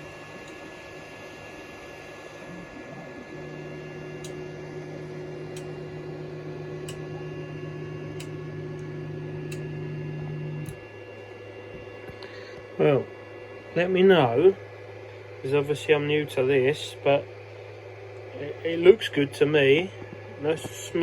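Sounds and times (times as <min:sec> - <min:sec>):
high whine: 0:00.0 - 0:21.0
stepper motors humming: 0:00.0 - 0:21.0.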